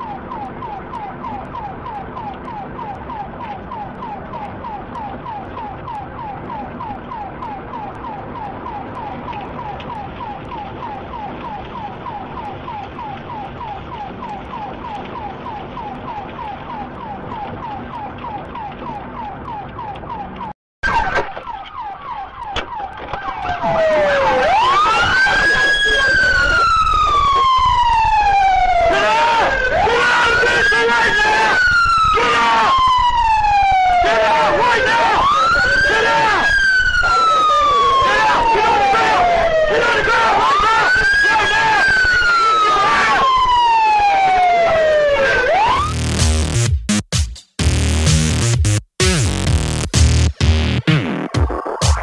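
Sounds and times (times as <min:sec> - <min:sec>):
siren wail: 0:00.0 - 0:46.7
police siren yelping: 0:00.0 - 0:46.8, 0:47.7 - 0:52.0
road noise: 0:00.0 - 0:52.0.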